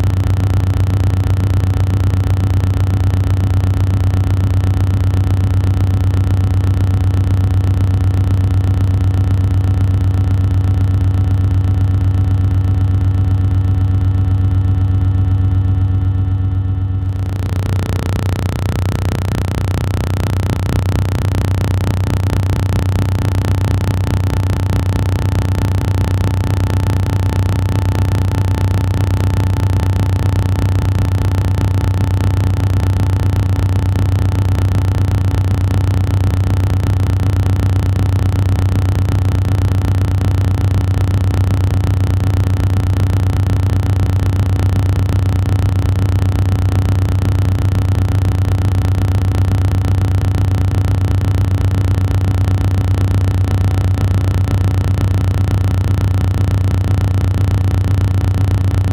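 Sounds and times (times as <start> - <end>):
low electric hum: 0.0 - 58.9.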